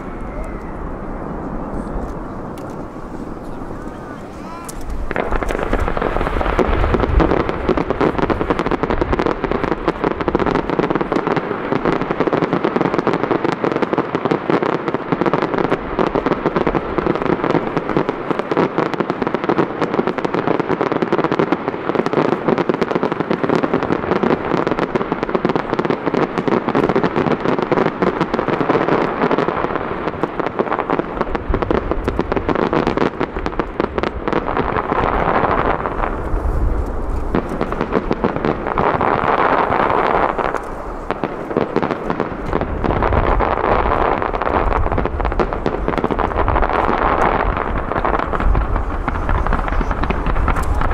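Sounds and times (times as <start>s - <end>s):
deep fireworks booms: 0.0s - 50.9s
fireworks shells bursting and crackling: 0.0s - 50.9s.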